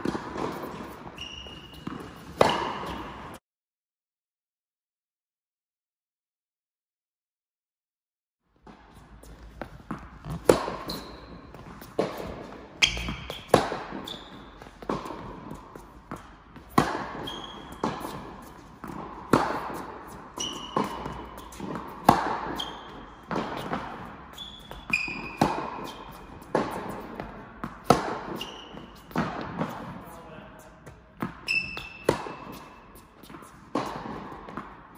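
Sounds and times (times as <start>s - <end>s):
shoes squeaking on court: 0.0s - 3.4s, 8.7s - 30.2s, 30.8s - 34.8s
tennis balls struck by rackets: 0.0s - 3.4s, 8.6s - 30.0s, 30.8s - 34.9s.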